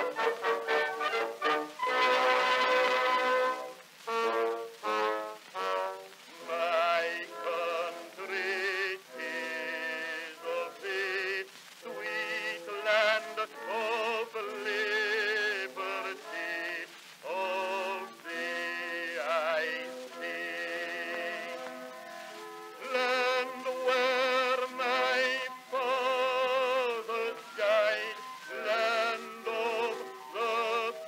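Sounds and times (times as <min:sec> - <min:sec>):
slow song with vibrato singing: 0:00.0 - 0:31.0.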